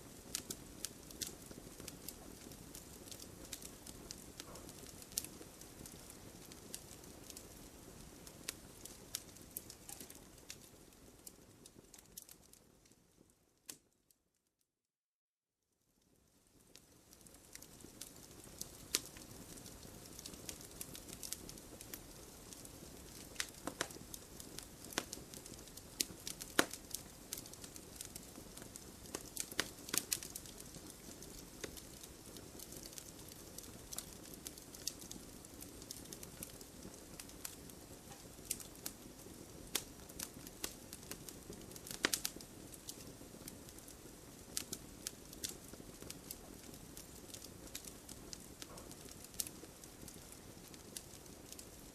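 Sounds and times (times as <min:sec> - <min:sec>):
campfire crackling: 0:00.0 - 0:13.9, 0:16.1 - 0:51.9.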